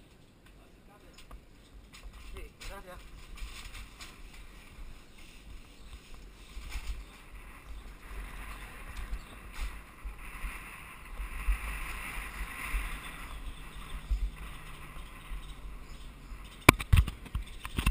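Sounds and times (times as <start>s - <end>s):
wind and rolling hiss: 0.0s - 17.9s
low rumbling gusts: 0.7s - 17.9s.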